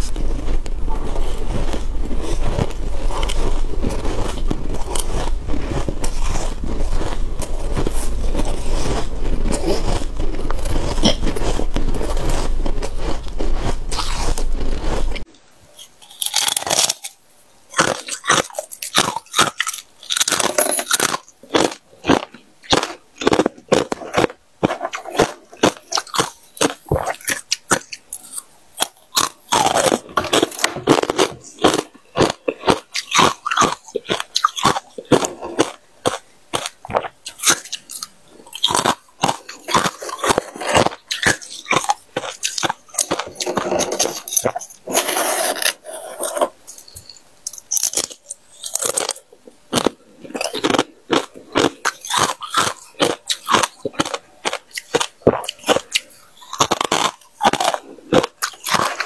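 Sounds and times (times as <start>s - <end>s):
person chewing crunchy frost: 0.0s - 59.0s.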